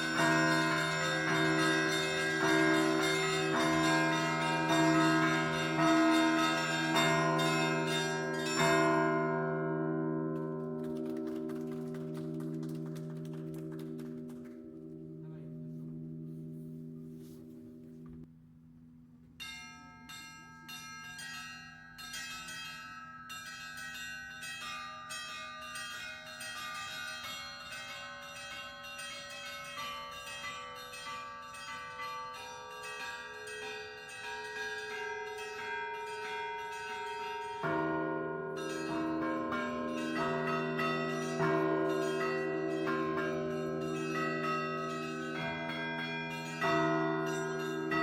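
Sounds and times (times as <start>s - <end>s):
deep heavy church bells: 0.0s - 17.2s, 19.4s - 48.0s
small church bells pealing: 0.0s - 17.2s, 19.4s - 48.0s.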